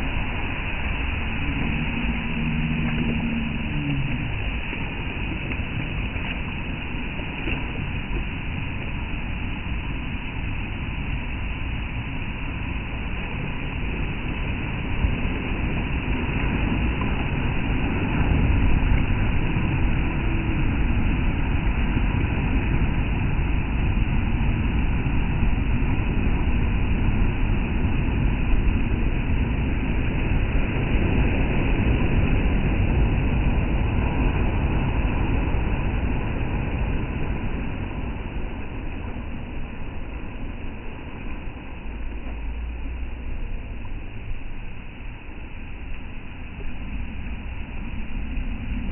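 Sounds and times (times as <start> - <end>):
surf waves breaking: 0.0 - 48.9.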